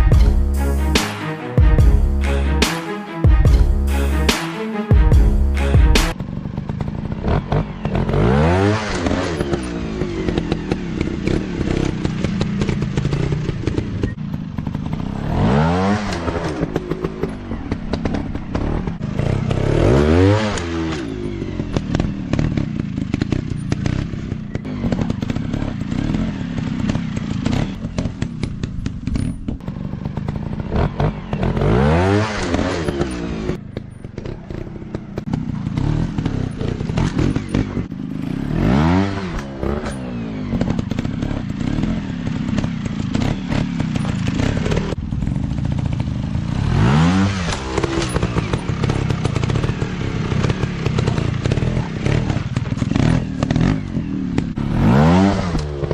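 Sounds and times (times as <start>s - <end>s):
dirt bike engines revving: 5.5s - 55.9s.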